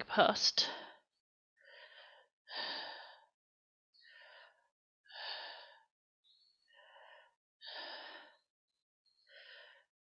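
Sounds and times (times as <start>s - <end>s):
woman breathing heavily: 0.7s - 10.0s.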